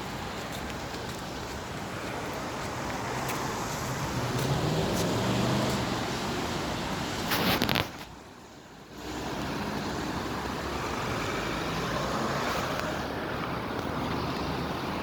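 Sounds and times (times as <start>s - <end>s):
motor traffic street noise: 0.0s - 15.0s.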